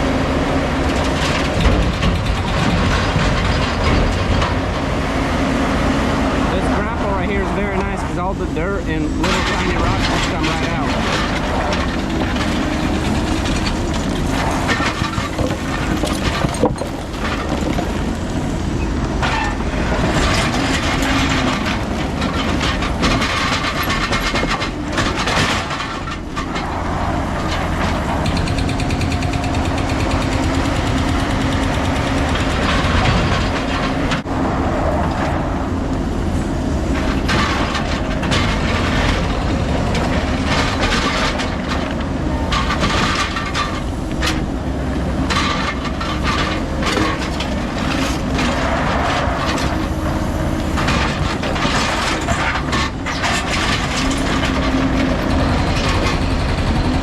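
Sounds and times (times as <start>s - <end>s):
heavy diesel equipment running: 0.0s - 57.0s
metal and rock clanking: 0.8s - 4.9s, 6.8s - 34.3s, 36.2s - 44.5s, 45.1s - 57.0s.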